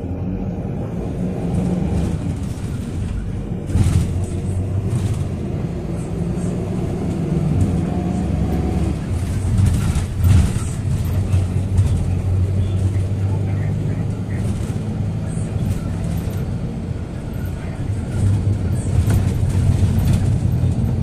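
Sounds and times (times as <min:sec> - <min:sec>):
bus engine drone: 0:00.0 - 0:21.0
road noise: 0:00.0 - 0:21.0.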